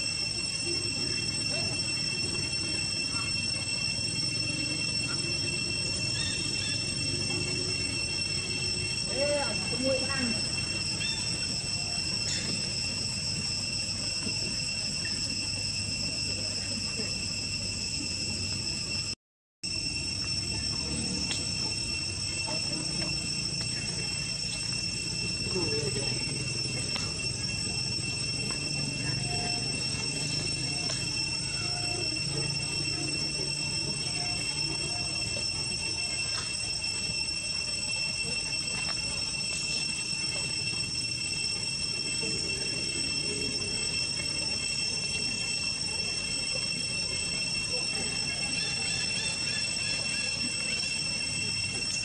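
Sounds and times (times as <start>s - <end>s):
insect chorus drone: 0.0s - 52.0s.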